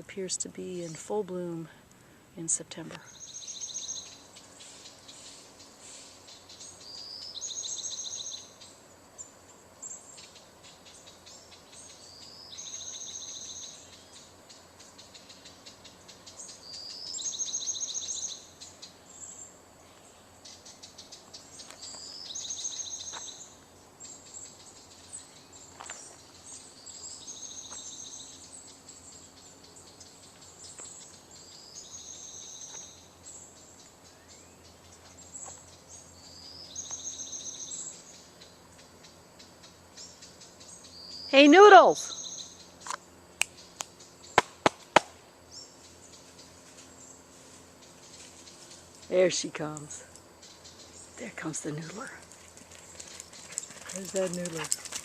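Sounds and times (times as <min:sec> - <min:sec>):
faint ticking chirps: 0:00.2 - 0:44.5, 0:45.4 - 0:55.0
songbird trilled song: 0:02.4 - 0:44.5, 0:45.4 - 0:52.3.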